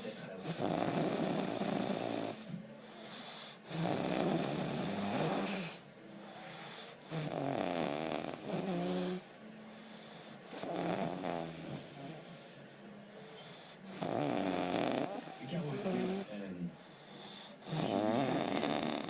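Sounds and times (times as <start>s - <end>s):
quiet breathing: 0.0s - 19.0s
person snoring: 0.4s - 12.0s, 13.5s - 19.0s.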